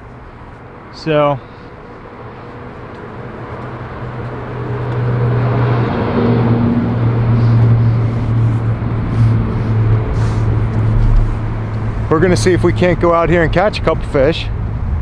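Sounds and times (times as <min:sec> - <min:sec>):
vehicle engine humming: 0:00.0 - 0:15.0
broad rushing noise: 0:00.6 - 0:15.0.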